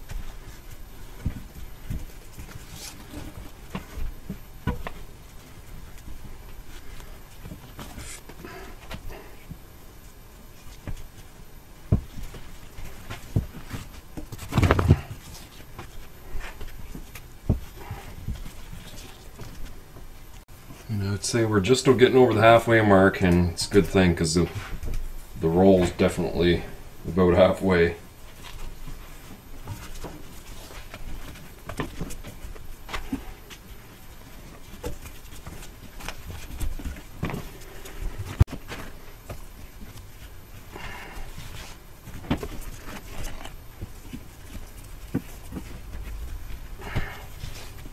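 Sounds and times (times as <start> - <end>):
heat wrap rustling on pipe: 0.0 - 47.9.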